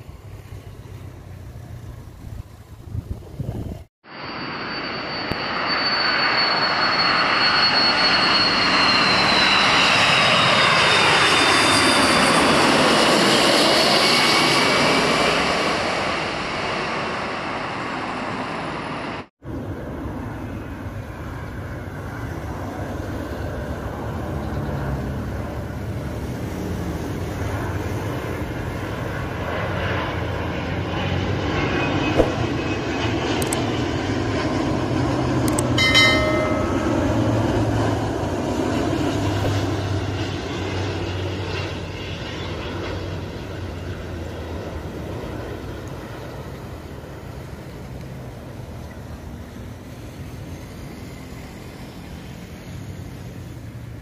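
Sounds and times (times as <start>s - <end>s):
jet airliner passing overhead: 0.0s - 54.0s
jet engine whine: 0.0s - 54.0s.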